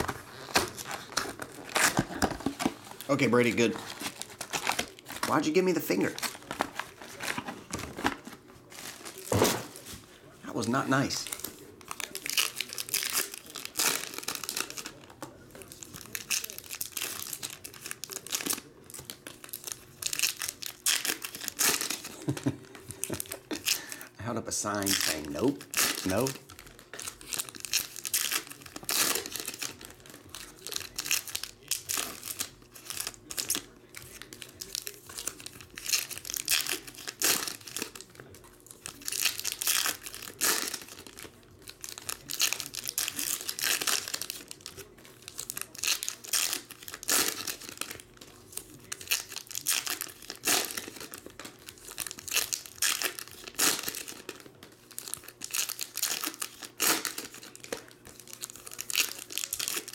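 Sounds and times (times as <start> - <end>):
foil packs tearing and crinkling: 0.0 - 9.8, 10.5 - 59.9.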